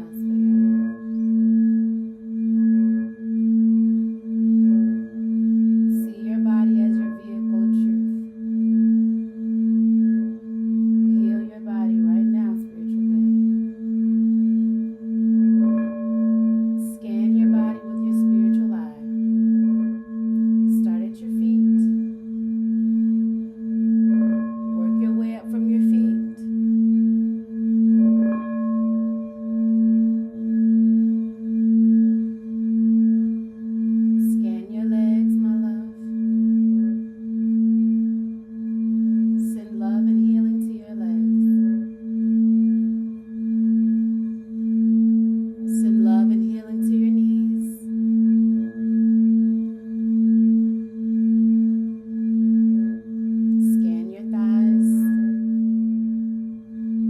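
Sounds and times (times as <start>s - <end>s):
higher ringing bowl tones: 0.0s - 57.0s
singing bowl low tone: 0.0s - 57.0s.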